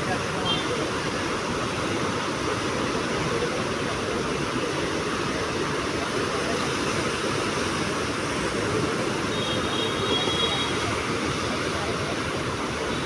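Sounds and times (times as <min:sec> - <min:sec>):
sea surf waves: 0:00.0 - 0:13.0.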